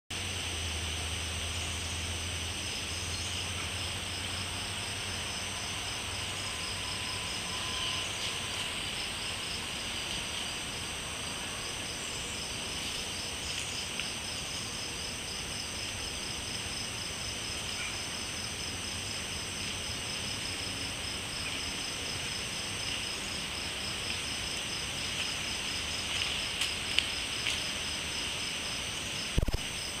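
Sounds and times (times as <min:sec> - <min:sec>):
crickets and insects trilling: 0:00.2 - 0:30.0.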